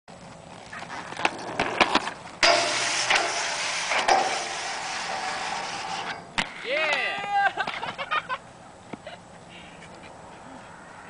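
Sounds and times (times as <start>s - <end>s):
skate wheels rolling on concrete: 0.1s - 11.0s.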